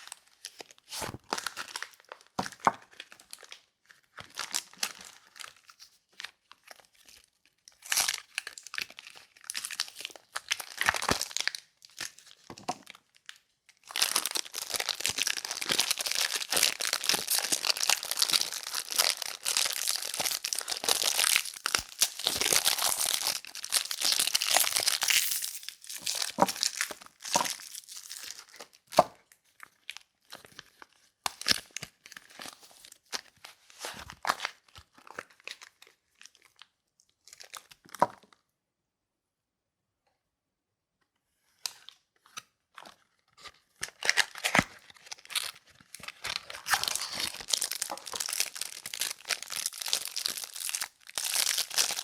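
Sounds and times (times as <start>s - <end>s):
wrapping crinkling and tearing: 0.0s - 29.0s, 29.6s - 37.9s, 41.6s - 52.0s.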